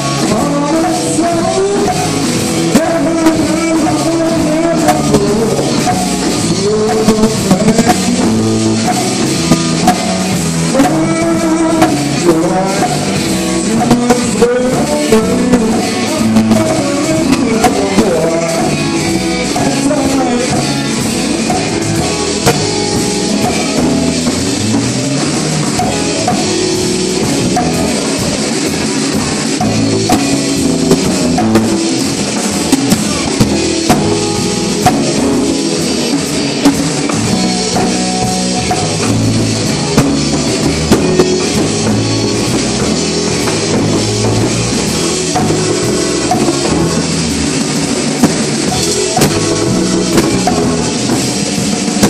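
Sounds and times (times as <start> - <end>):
blues-rock band playing: 0.0 - 52.0
sharp drum hits: 0.0 - 52.0.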